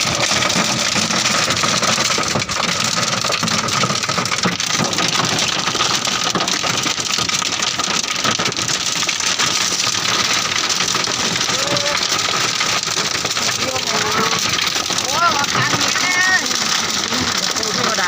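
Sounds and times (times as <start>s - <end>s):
hail and rain on car body: 0.0s - 18.0s.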